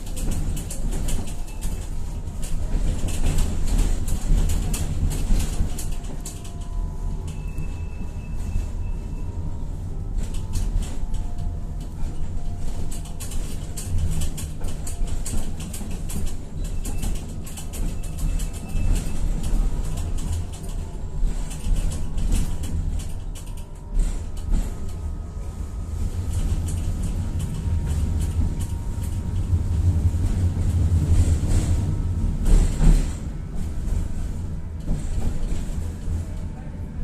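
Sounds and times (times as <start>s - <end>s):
tram running gear rumble: 0.0s - 37.0s.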